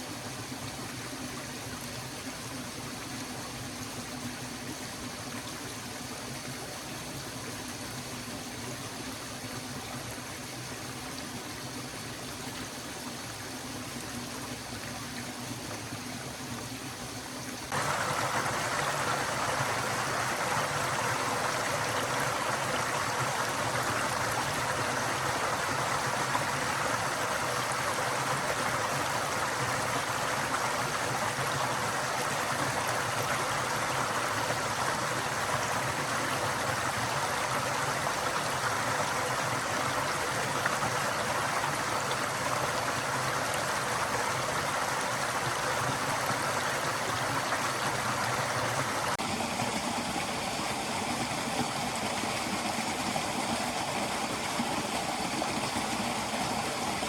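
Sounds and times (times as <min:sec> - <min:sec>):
stream babbling over rocks: 0:00.1 - 0:57.0.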